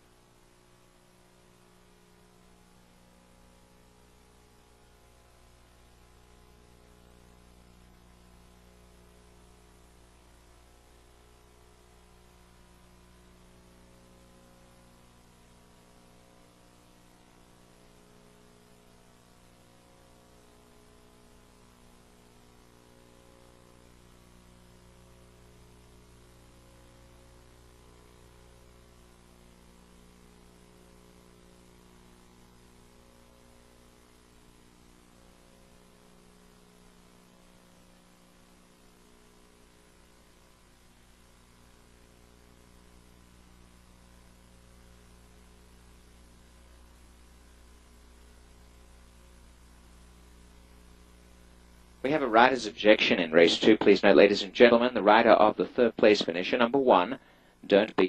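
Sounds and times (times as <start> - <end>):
faint electrical mains hum: 0.0 - 58.0.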